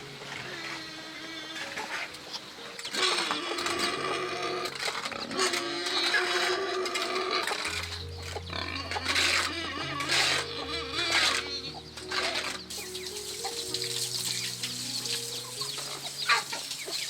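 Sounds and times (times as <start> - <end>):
background music: 0.0 - 17.0
pigs squealing: 0.1 - 17.0.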